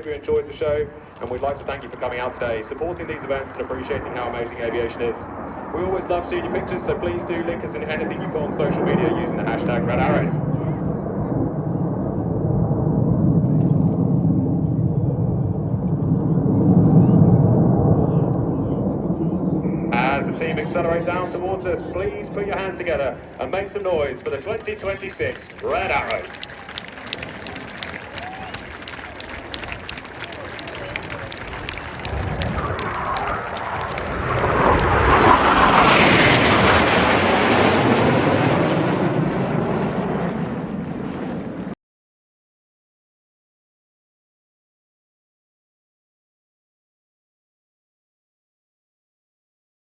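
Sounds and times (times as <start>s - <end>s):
jet rumble in flight: 0.0s - 41.8s.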